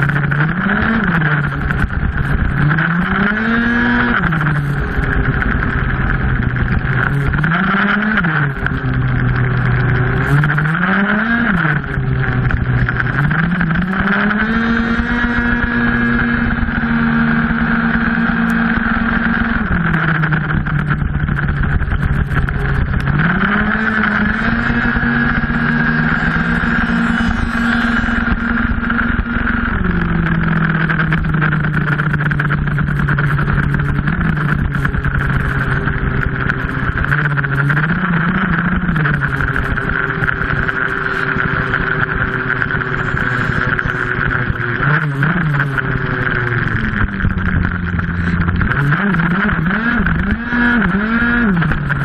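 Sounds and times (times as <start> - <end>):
two-stroke scooter engine revving: 0.0 - 52.0.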